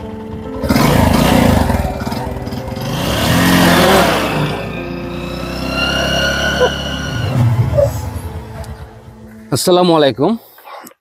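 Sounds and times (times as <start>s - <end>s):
motorcycle engine revving: 0.2s - 9.2s.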